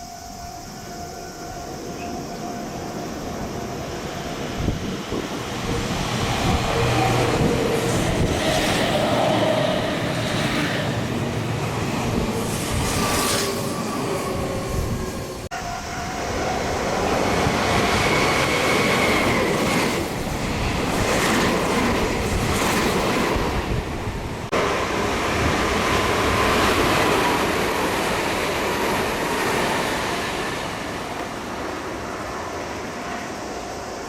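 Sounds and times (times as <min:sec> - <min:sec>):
train wheels rushing on rails: 0:01.7 - 0:34.0.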